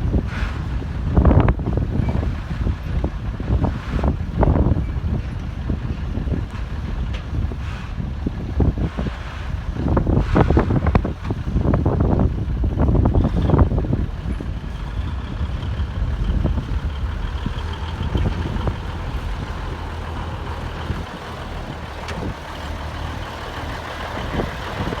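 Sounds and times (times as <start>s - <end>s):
diesel truck engine rumbling: 0.0s - 25.0s
wind buffeting microphone: 0.0s - 25.0s.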